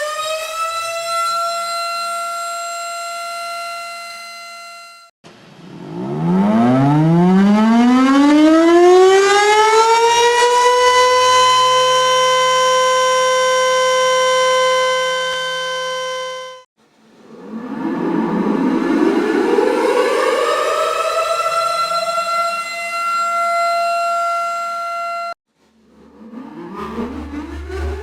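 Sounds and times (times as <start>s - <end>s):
tornado siren wailing: 0.0s - 5.0s, 5.6s - 16.4s, 17.2s - 28.0s
lower siren tone: 0.0s - 28.0s
steady siren tone: 0.0s - 28.0s.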